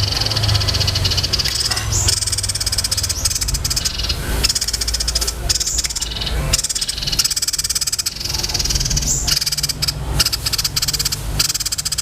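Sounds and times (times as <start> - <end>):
songbird rattling trills: 0.0 - 12.0
steady low hum: 0.0 - 12.0.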